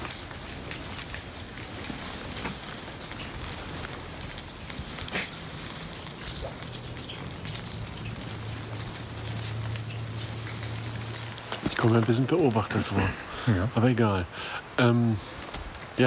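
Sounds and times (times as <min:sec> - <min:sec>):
rain falling: 0:00.0 - 0:16.0
raindrops ticking: 0:00.0 - 0:16.0.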